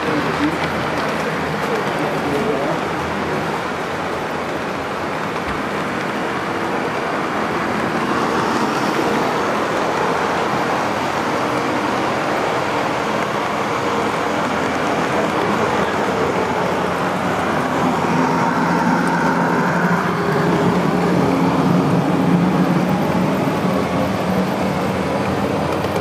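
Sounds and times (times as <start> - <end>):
model train wheels on rails: 0.0 - 26.0.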